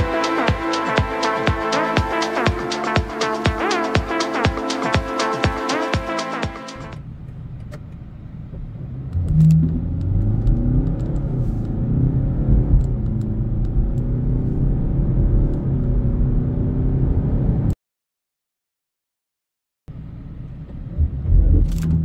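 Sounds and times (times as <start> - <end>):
diesel engine accelerating: 0.0 - 17.8.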